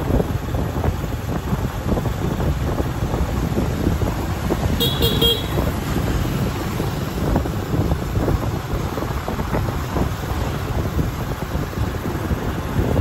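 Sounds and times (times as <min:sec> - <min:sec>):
traffic noise: 0:00.0 - 0:13.0
wind buffeting microphone: 0:00.0 - 0:13.0.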